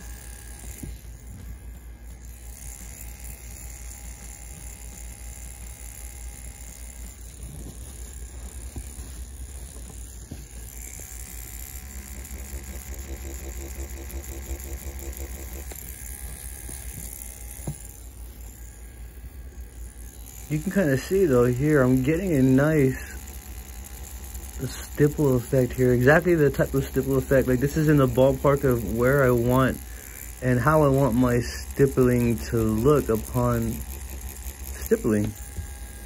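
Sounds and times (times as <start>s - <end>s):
tattoo machine buzzing: 0.0s - 36.0s.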